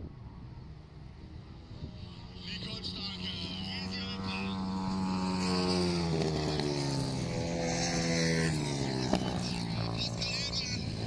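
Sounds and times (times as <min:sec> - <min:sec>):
motorcycle engines passing at speed: 0:00.0 - 0:11.0.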